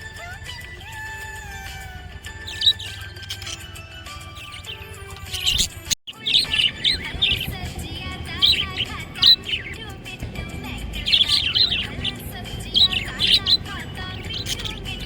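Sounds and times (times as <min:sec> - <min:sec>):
budgie chirping: 0:00.0 - 0:15.0.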